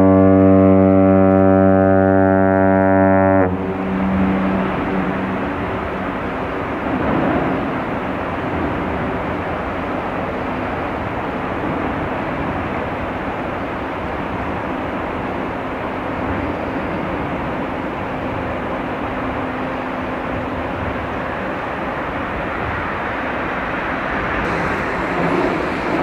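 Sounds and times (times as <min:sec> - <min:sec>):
ship machinery roar: 0:00.0 - 0:26.0.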